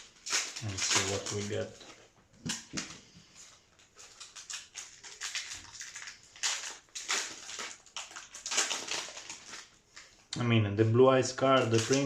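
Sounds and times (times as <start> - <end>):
foil wrappers crinkling: 0.0 - 10.3, 11.4 - 12.0.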